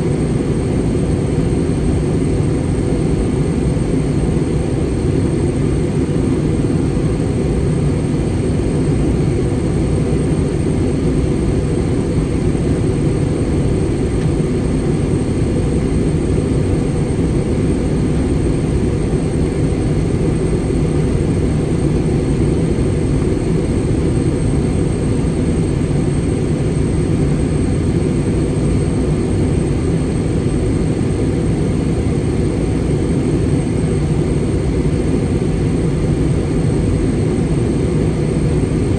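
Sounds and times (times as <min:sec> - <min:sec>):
airliner cabin roar: 0:00.0 - 0:38.9.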